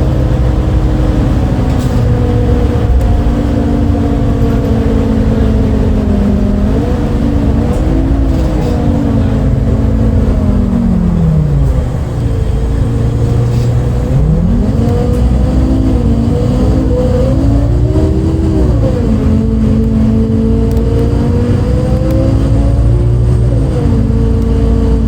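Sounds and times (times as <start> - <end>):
bus diesel engine: 0.0 - 25.0.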